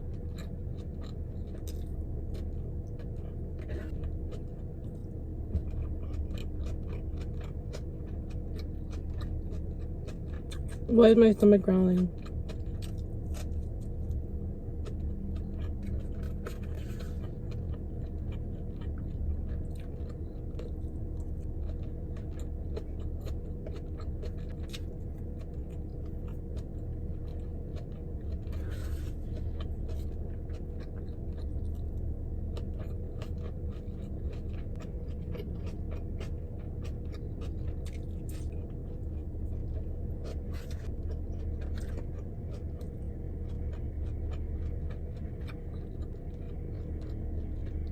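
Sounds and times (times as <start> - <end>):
chewing mouth sounds: 0.0 - 10.9, 12.0 - 47.9
low car interior hum: 0.0 - 47.9.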